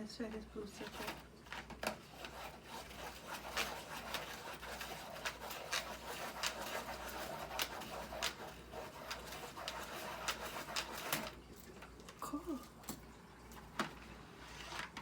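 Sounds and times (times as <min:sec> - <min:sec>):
paper rustling by hand: 0:00.8 - 0:11.4, 0:13.6 - 0:15.0.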